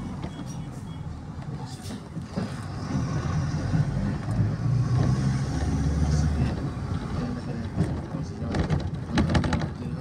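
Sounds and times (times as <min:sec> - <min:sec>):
bus engine rumble: 0:00.0 - 0:10.0.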